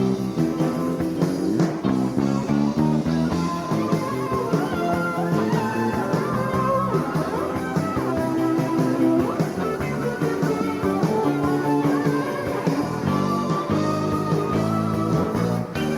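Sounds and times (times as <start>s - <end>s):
electric guitar: 0.0s - 15.9s
live band music: 0.0s - 15.9s
steady drum beat: 0.0s - 15.9s.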